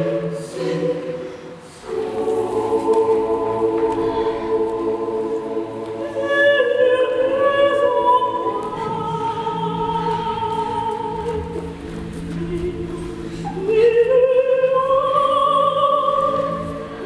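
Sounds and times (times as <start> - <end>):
voices singing sustained notes: 0.0 - 17.0.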